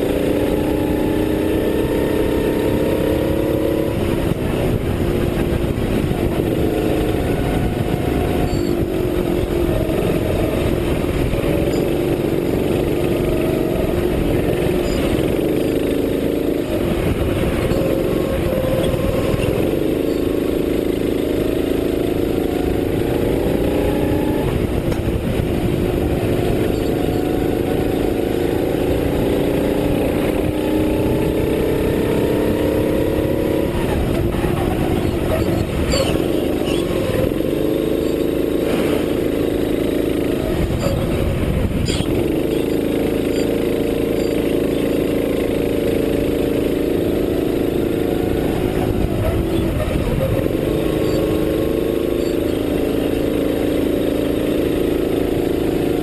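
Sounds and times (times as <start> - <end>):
racing kart engine: 0.0 - 56.0
wind noise on microphone: 1.4 - 43.2, 47.8 - 52.8.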